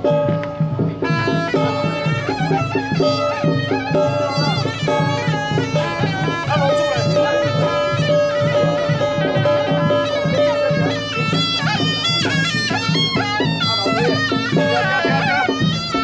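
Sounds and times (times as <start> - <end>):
steady drumming: 0.0 - 16.0
shrill double-reed horn: 1.0 - 16.0.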